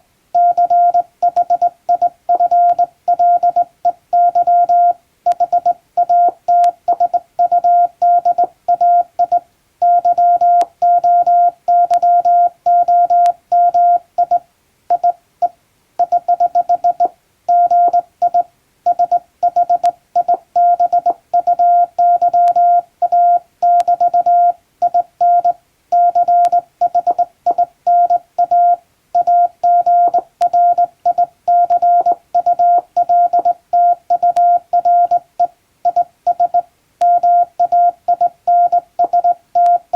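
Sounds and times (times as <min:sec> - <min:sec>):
morse code tone: 0:00.4 - 0:15.2, 0:16.0 - 0:39.9.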